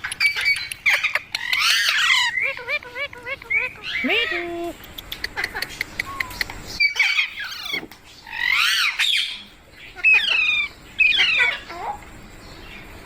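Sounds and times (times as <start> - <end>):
parrot squawking: 0.0 - 4.6, 5.2 - 12.0.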